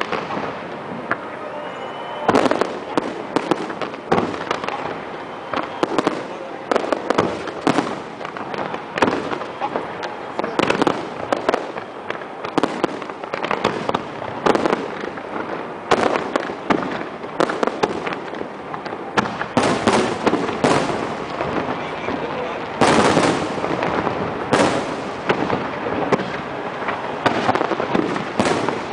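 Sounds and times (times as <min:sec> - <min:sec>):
fireworks booming and banging: 0:00.0 - 0:28.9
fireworks crackling: 0:00.0 - 0:28.9.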